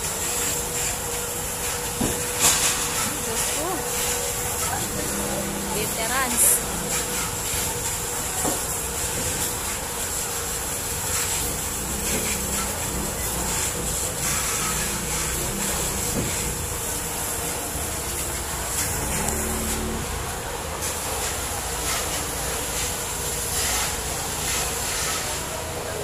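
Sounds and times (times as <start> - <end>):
fire crackling: 0.0 - 21.4
house fire rushing: 0.0 - 26.0
faint voices: 0.6 - 23.5.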